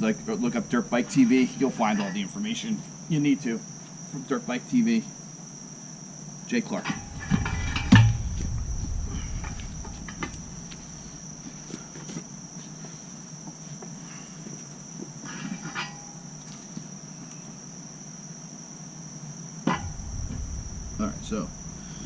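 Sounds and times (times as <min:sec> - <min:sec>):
cricket trill: 0:00.0 - 0:22.0.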